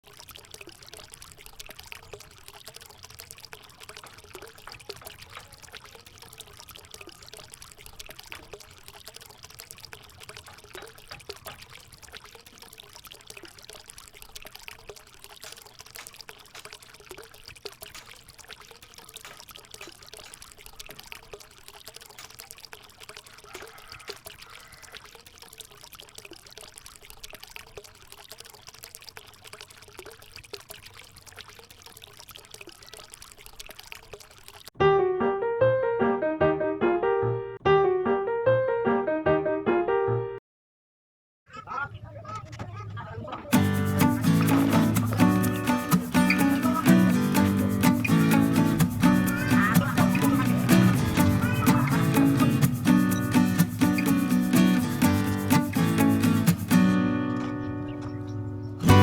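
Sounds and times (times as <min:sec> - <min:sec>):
water trickling from fountain spout: 0:00.0 - 0:34.8, 0:42.7 - 0:59.0.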